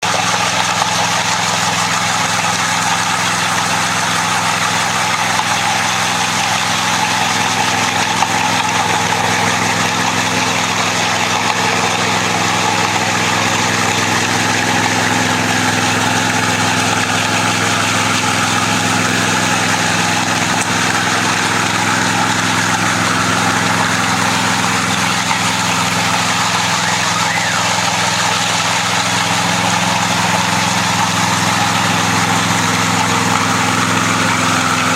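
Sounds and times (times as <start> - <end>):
power trowel engine running: 0.0 - 34.9.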